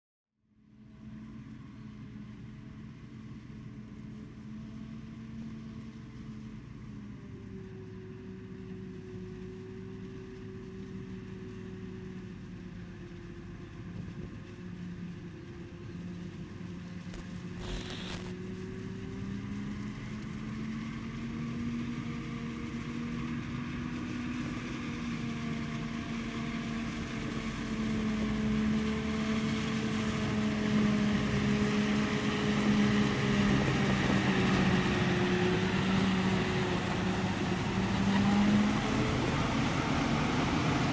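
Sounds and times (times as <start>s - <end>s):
forage harvester engine drone: 0.6s - 40.9s.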